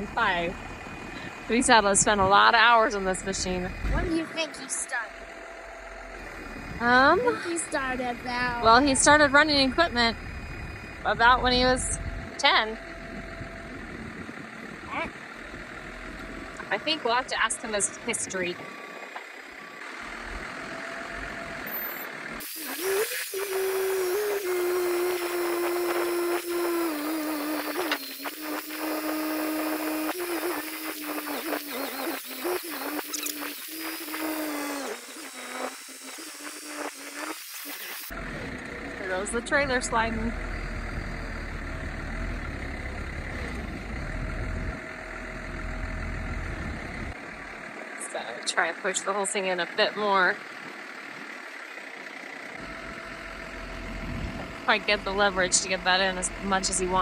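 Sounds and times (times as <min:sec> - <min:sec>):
forklift engine running: 0:00.0 - 0:57.0
steady hydraulic whine: 0:00.0 - 0:57.0.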